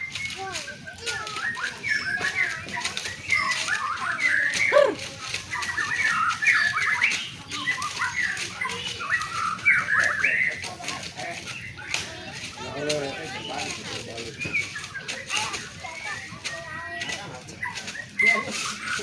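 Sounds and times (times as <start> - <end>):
bird singing: 0.0 - 19.0.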